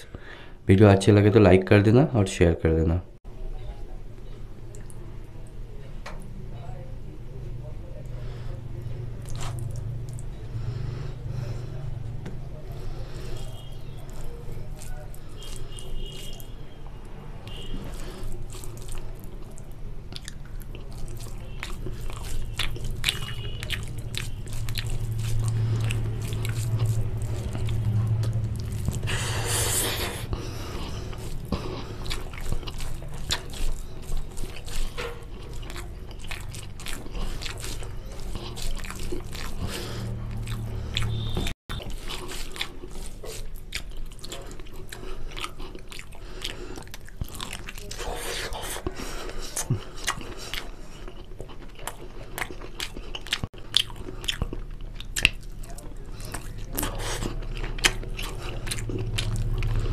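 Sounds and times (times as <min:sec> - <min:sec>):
wet smacking chewing: 0:09.1 - 0:10.7, 0:11.3 - 0:16.6, 0:17.4 - 0:59.9.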